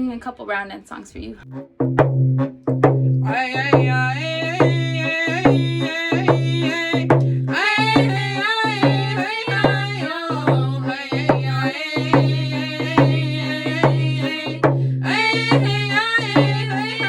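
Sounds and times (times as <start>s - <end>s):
hand drum beats: 1.5s - 17.0s
voices singing: 3.2s - 17.0s.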